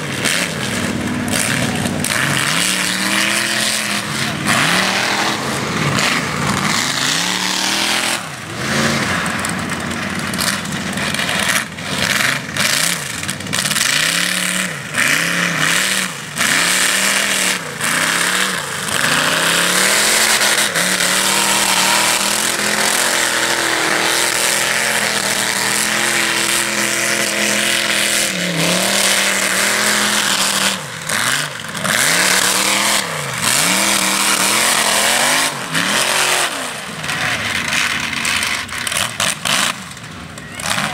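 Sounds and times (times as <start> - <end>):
truck engine revving hard: 0.0 - 40.9.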